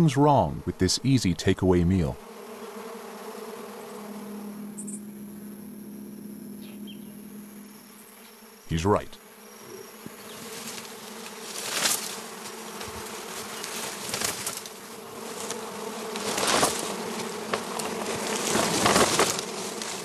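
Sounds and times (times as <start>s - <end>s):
flies buzzing: 0.0s - 20.0s.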